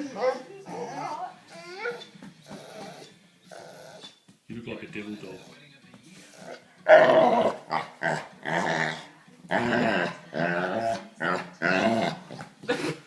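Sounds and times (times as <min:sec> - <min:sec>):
dogs play-growling: 0:00.0 - 0:04.2, 0:06.3 - 0:12.8.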